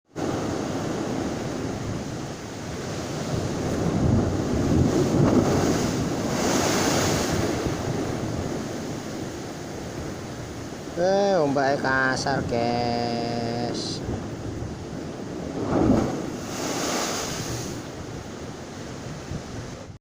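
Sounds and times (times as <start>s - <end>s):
wind buffeting microphone: 0.1s - 11.0s, 11.7s - 20.0s
surf crashing against shore: 0.1s - 20.0s.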